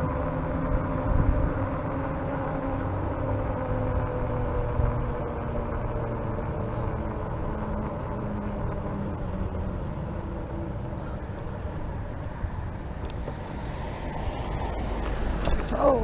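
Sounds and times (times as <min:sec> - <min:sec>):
electric bike riding rumble: 0:00.0 - 0:16.0.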